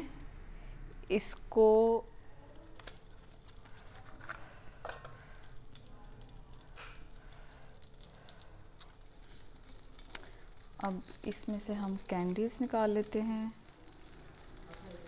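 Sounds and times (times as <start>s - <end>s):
faint steady hum: 0.0s - 15.0s
butter sizzling in a pan: 2.0s - 15.0s.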